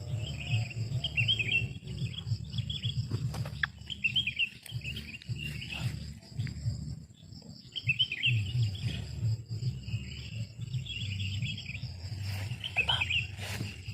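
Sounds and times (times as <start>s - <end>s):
birds twittering: 0.0s - 13.9s
low rumbling noise: 0.0s - 13.9s.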